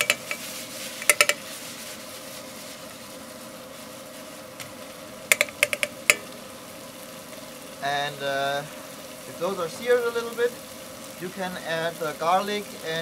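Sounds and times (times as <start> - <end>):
peppers sizzling in frying pan: 0.0 - 13.0
steady hum: 0.0 - 13.0.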